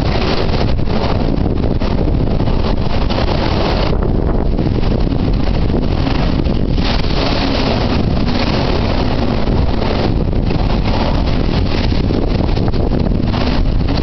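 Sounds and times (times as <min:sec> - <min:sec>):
storm waves rumbling: 0:00.0 - 0:14.0
wind gusting on microphone: 0:00.0 - 0:14.0.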